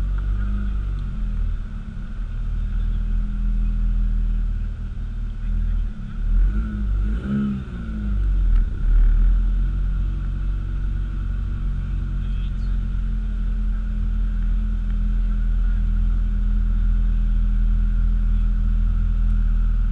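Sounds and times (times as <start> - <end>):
car engine running: 0.0 - 19.9.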